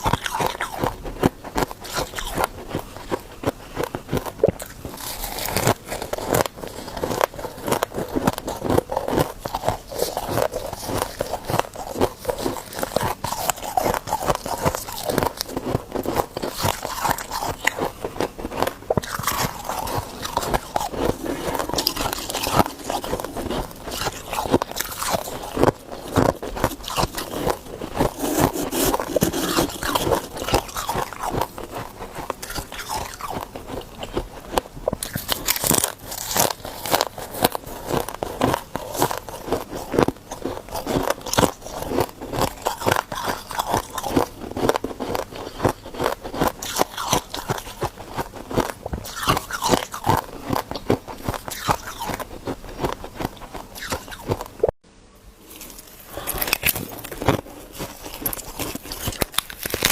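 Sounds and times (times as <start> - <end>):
ice being chewed: 0.0 - 54.8, 55.4 - 59.9.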